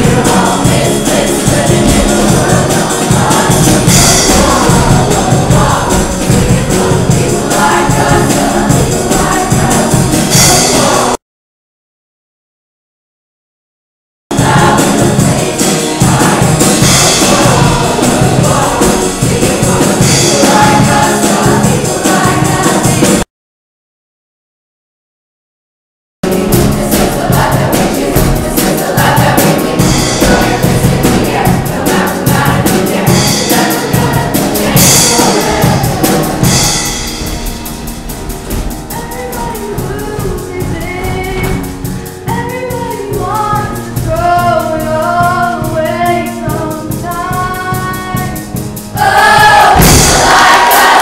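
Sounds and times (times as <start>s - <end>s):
choir singing with accompaniment: 0.0s - 11.2s, 14.3s - 23.3s, 26.2s - 51.0s.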